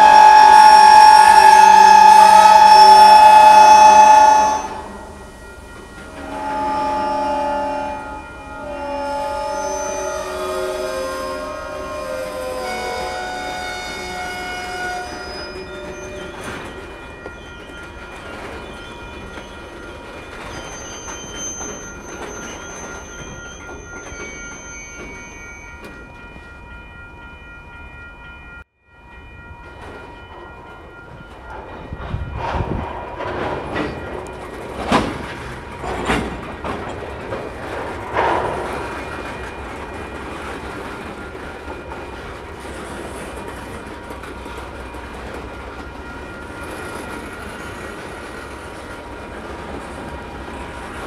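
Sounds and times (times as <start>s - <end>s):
squealing train wheels: 0.0s - 27.2s, 29.1s - 51.0s
freight train rumbling past: 0.0s - 51.0s
train cars clanking: 0.0s - 51.0s.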